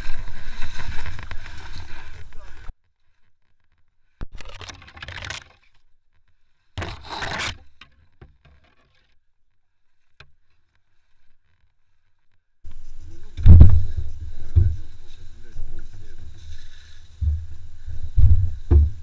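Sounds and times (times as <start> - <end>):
branches rustling against clothing: 0.0 - 19.0.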